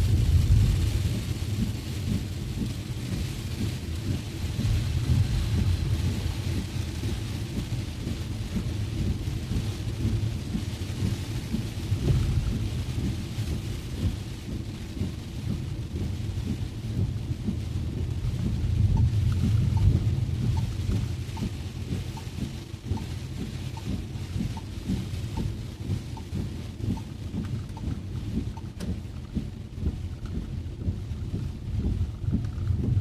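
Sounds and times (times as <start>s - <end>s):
continuous low rumble: 0.0s - 33.0s
heavy rain on a car: 0.0s - 33.0s.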